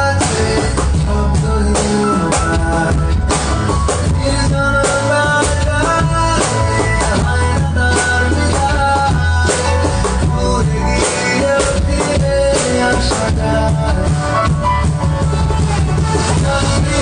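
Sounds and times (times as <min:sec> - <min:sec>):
instrumental music with drum beat: 0:00.0 - 0:17.0.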